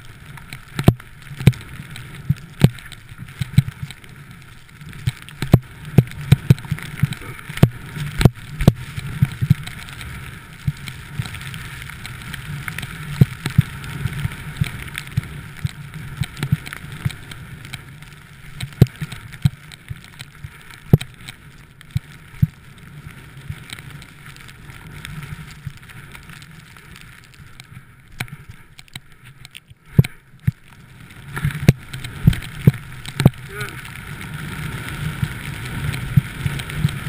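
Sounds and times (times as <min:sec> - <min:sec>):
sliding through soft snow: 0:00.0 - 0:37.0.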